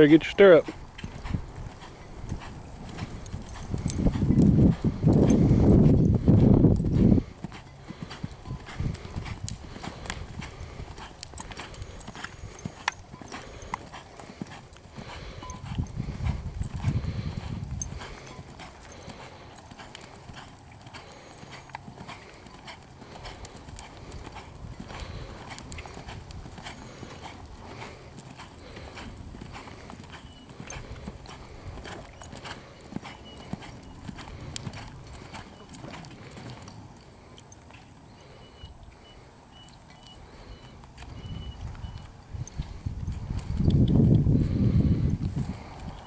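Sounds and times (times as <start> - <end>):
horse hooves on sand: 0.0 - 46.0.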